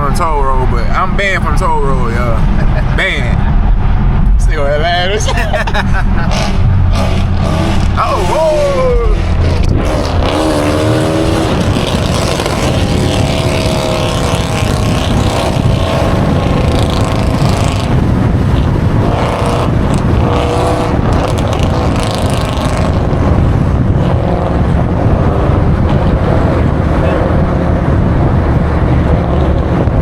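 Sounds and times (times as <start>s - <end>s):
loud car engine revving: 0.0s - 30.0s.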